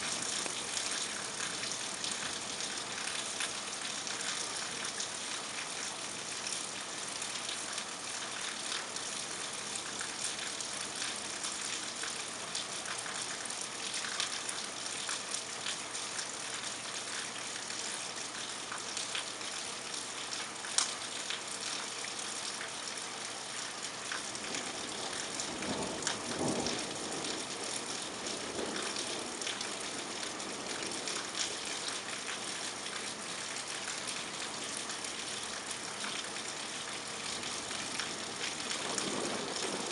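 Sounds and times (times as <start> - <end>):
raindrops ticking close by: 0.0 - 39.9
steady rain falling: 0.0 - 39.9.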